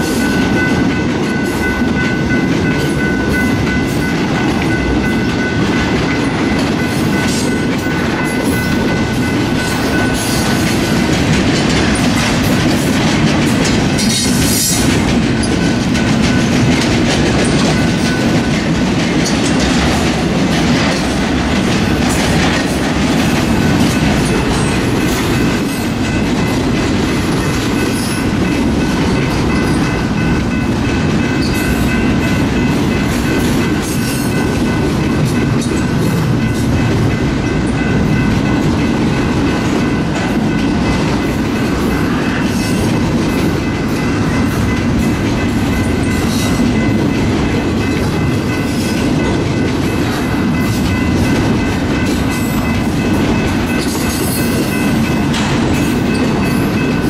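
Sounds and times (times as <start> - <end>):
freight train rolling past: 0.0 - 57.0
wheels clacking over rail joints: 0.0 - 57.0.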